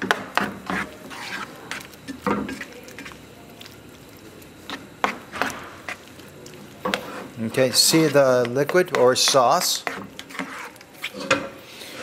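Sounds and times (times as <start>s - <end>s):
spatula stirring and scraping skillet: 0.0s - 12.0s.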